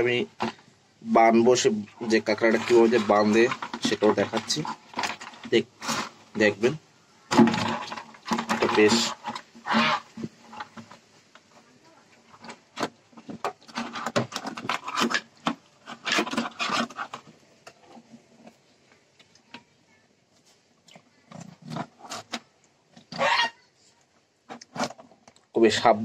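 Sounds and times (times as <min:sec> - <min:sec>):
crab scraping in plastic bucket: 0:00.0 - 0:18.6, 0:21.2 - 0:23.6, 0:24.5 - 0:25.3.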